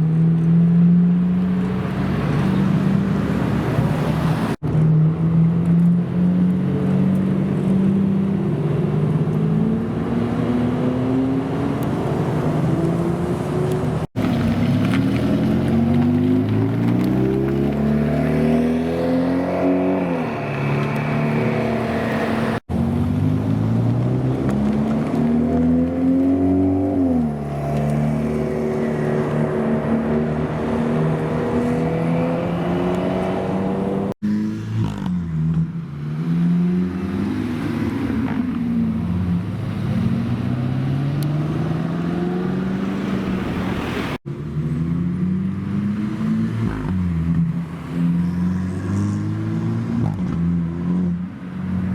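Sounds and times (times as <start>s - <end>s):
supercar engines revving: 0.0s - 51.9s.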